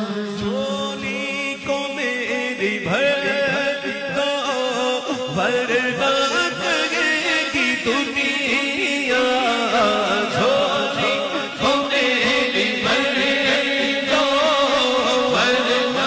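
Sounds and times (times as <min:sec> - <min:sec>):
held vocal drone: 0:00.0 - 0:16.0
man singing into microphone: 0:00.0 - 0:16.0.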